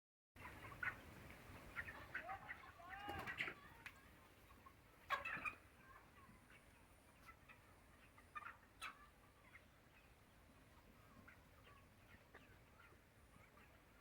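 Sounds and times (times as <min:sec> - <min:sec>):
chickens clucking: 0:00.4 - 0:14.0.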